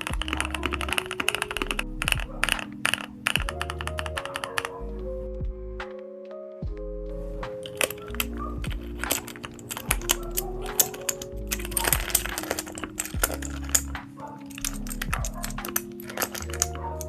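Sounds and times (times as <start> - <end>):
mechanical keyboard typing: 0.0 - 4.8, 7.6 - 17.0
background music: 0.0 - 17.0.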